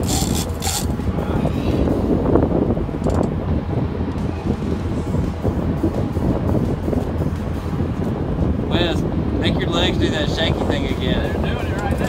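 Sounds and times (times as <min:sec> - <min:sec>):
boat engine rumbling: 0:00.0 - 0:12.0
wind buffeting microphone: 0:00.0 - 0:12.0.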